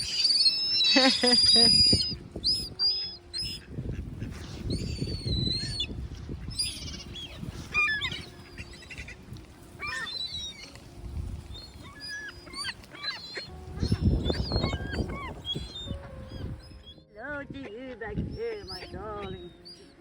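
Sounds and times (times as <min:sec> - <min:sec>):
wind buffeting microphone: 0:00.0 - 0:19.8
gulls calling: 0:00.0 - 0:20.0.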